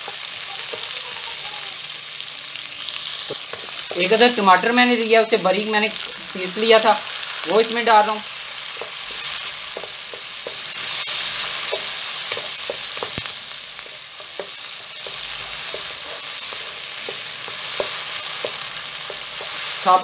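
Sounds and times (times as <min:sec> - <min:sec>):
masala sizzling in oil: 0:00.0 - 0:20.0.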